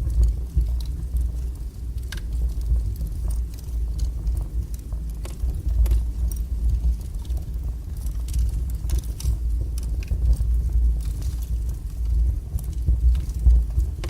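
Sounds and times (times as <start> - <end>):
fire crackling and popping: 0.0 - 14.0
fire flames rumbling: 0.0 - 14.0.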